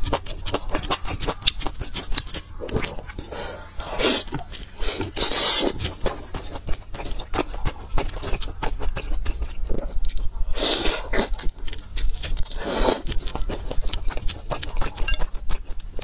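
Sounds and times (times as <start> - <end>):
wet chewing: 0.0 - 16.0.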